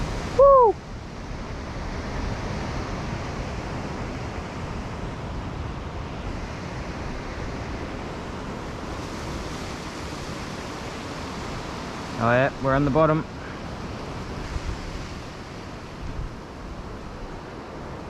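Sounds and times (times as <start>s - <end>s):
ocean waves breaking on rocks: 0.0s - 18.0s
wind on microphone: 0.0s - 18.0s.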